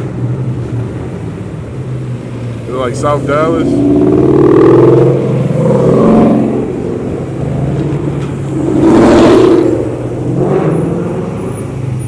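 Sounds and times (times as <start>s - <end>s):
car engine revving: 2.1s - 12.0s.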